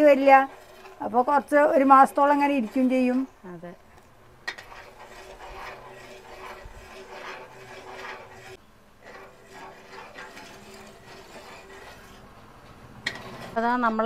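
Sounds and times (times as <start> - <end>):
spatula scraping pot bottom: 0.0 - 12.4, 13.0 - 14.0.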